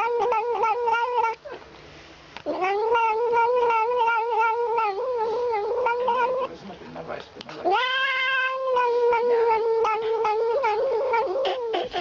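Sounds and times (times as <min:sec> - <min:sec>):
cat yowling: 0:00.0 - 0:01.6, 0:02.4 - 0:06.5, 0:07.6 - 0:12.0.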